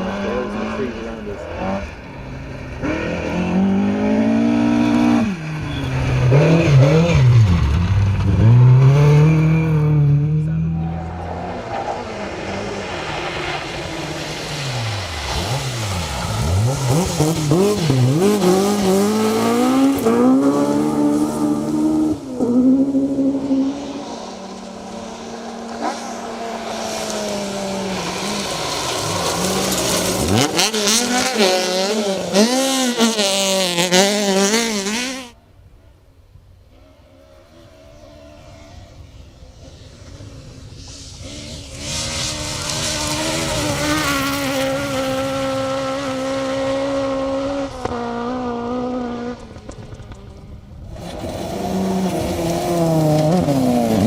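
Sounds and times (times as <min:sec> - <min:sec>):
rally car engines revving: 0:00.0 - 0:35.4, 0:36.7 - 0:54.0.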